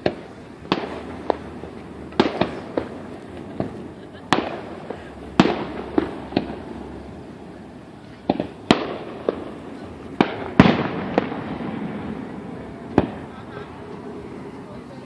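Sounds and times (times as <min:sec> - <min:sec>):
distant fireworks bursting: 0:00.0 - 0:15.0.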